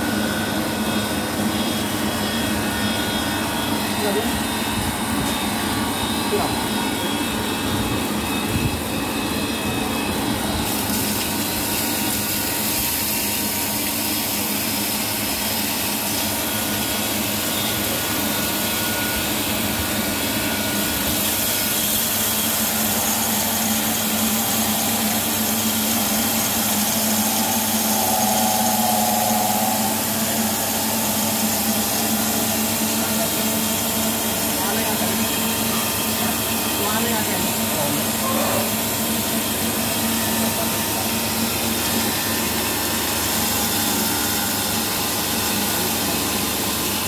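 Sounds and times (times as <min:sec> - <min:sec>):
machine whirring and humming: 0:00.0 - 0:47.0.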